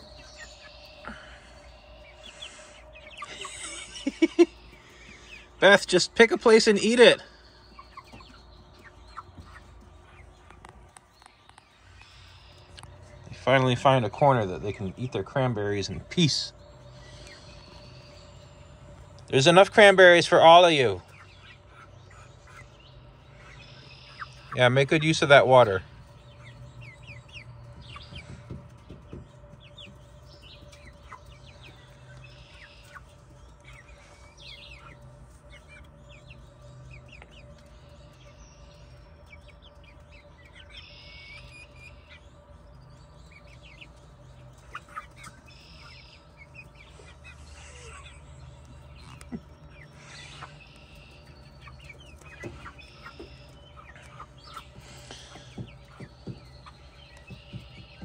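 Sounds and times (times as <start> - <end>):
faint steady hum: 0.0 - 58.0
hens clucking: 0.0 - 58.0.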